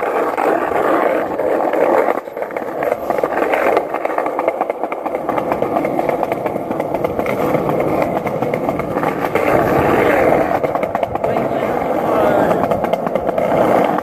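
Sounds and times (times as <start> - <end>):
wheels rolling on concrete: 0.0 - 14.0.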